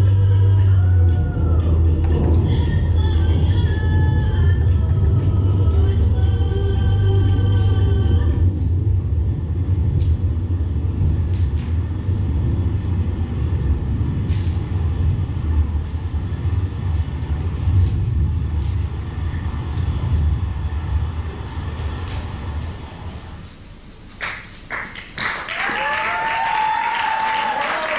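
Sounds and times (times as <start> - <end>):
steady low rumble: 0.0 - 26.3.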